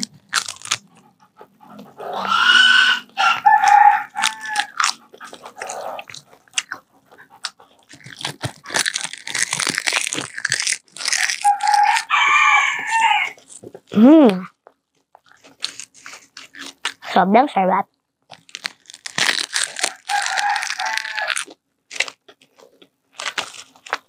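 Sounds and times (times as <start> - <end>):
snack packet crinkling: 0.0 - 1.1, 3.2 - 14.0, 14.6 - 17.0, 18.3 - 24.0
crunching and chewing snack: 0.0 - 17.1, 18.2 - 24.0.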